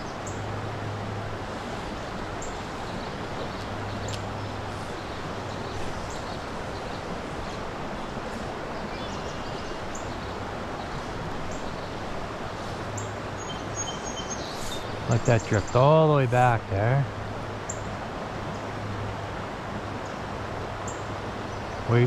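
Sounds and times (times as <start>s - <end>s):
shallow creek rippling: 0.0s - 22.0s.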